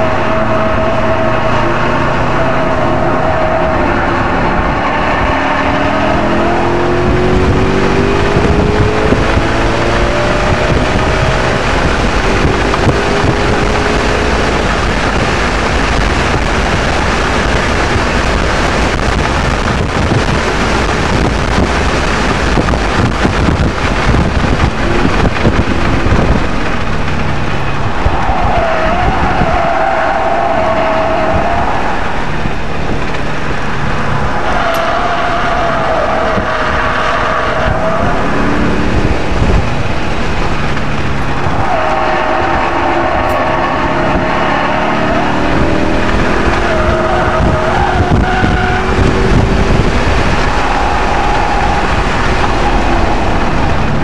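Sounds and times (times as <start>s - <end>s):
car engine accelerating: 0.0s - 54.0s
wind and road noise: 0.0s - 54.0s.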